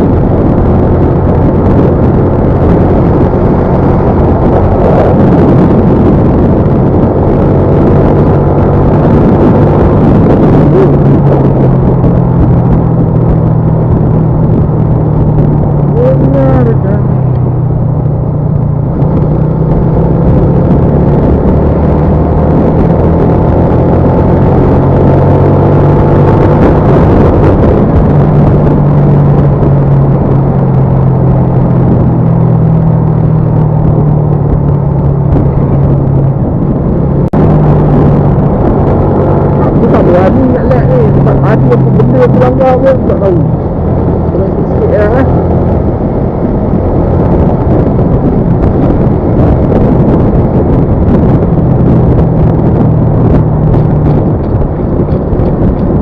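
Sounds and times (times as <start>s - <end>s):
road noise: 0.0s - 56.0s
vehicle engine drone: 0.0s - 56.0s
wind buffeting microphone: 0.0s - 56.0s.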